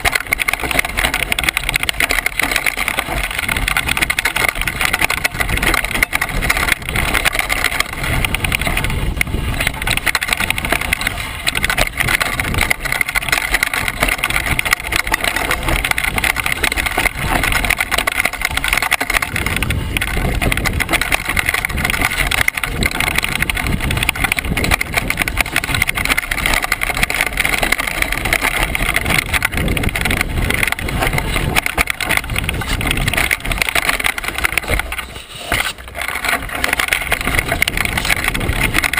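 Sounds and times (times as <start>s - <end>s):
bike rattling over stones: 0.0s - 38.9s.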